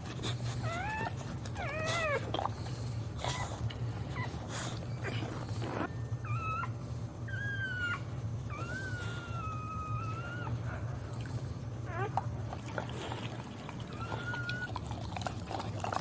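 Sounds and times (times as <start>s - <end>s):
dog whining: 0.5s - 2.5s, 3.2s - 11.0s, 11.8s - 16.0s.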